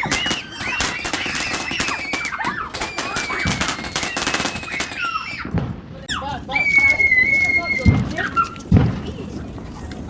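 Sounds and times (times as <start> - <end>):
fireworks crackling pops: 0.0 - 5.8, 7.7 - 10.0
fireworks high squeals: 0.0 - 9.7.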